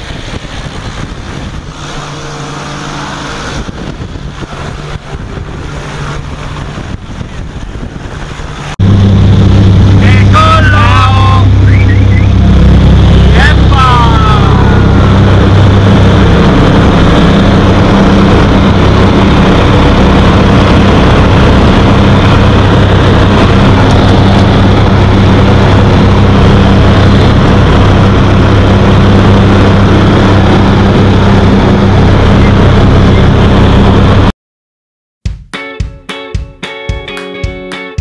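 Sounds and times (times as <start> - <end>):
propeller plane engine drone: 0.0 - 34.3.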